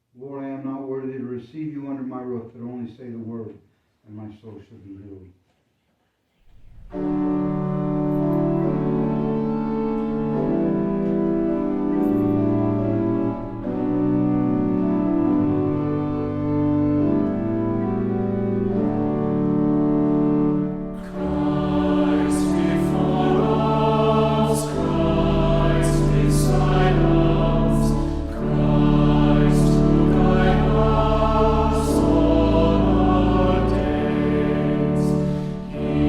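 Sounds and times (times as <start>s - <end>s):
church organ chords: 6.6s - 36.0s
choir singing a hymn: 6.8s - 36.0s.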